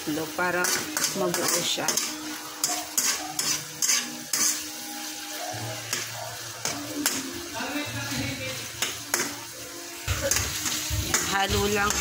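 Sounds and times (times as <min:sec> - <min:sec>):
spatula scraping a wok: 0:00.0 - 0:12.0
vegetables sizzling in oil: 0:00.0 - 0:12.0.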